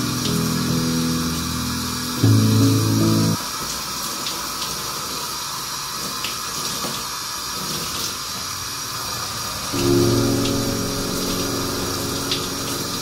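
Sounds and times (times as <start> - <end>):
shower spray running: 0.0 - 13.0.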